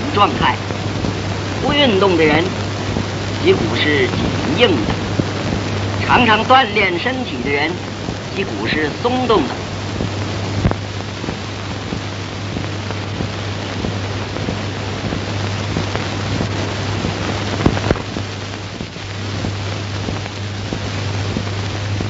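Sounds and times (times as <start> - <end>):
film hiss with crackle and pops: 0.0 - 22.0
low steady hum: 0.0 - 22.0.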